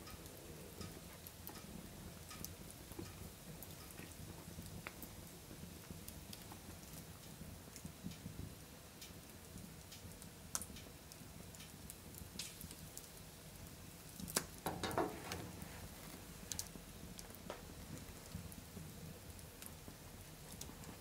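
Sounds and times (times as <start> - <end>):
embers crackling and popping: 0.0 - 21.0.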